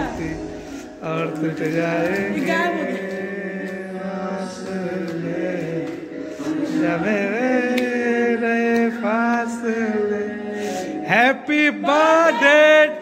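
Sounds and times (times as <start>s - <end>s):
person singing long held notes: 0.0s - 13.0s
song music: 0.0s - 13.0s.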